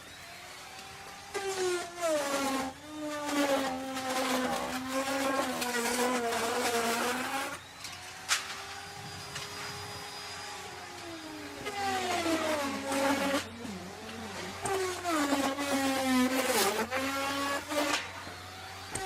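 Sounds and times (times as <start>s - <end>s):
electric router cutting wood: 0.0s - 19.0s.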